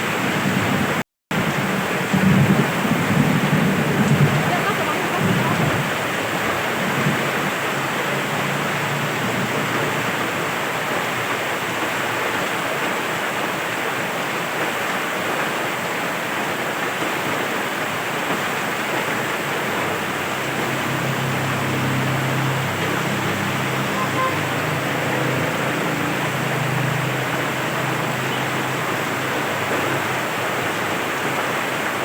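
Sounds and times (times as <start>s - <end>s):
rain falling: 0.0s - 32.0s.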